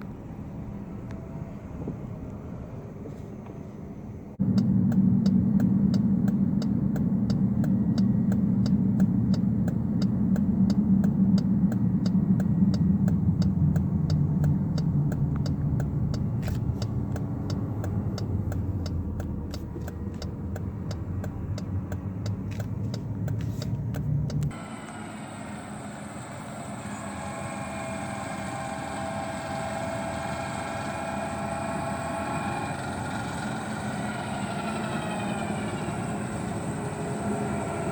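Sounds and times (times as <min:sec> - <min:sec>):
combine engine rumble: 0:00.0 - 0:37.9
machine hum with whining tones: 0:00.6 - 0:21.6, 0:24.3 - 0:37.9.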